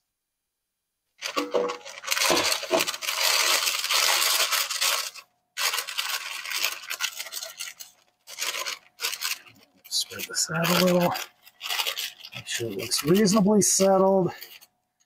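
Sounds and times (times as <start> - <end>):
parchment paper crinkling: 1.2 - 15.0.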